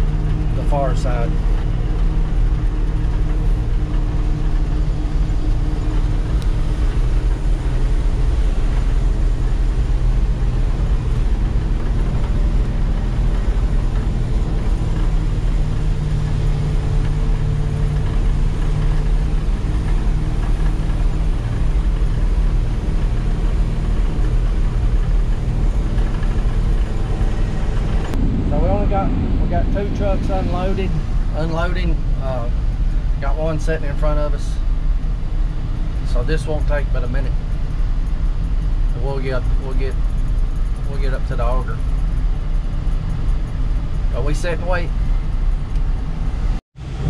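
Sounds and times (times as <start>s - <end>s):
truck engine running: 0.0s - 47.0s.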